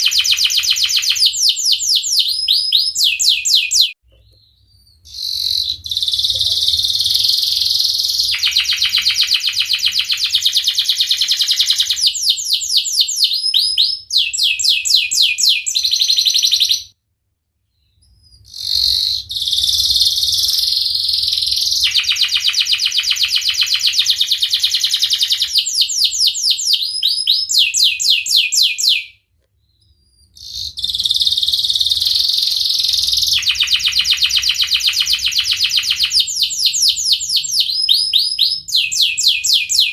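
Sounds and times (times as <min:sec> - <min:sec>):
canary singing trills: 0:00.0 - 0:17.0, 0:17.7 - 0:39.9.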